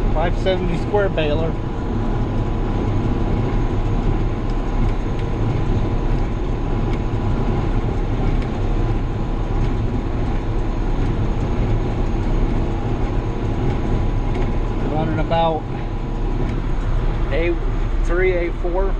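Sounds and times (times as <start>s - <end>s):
diesel tractor engine under load: 0.0s - 18.9s.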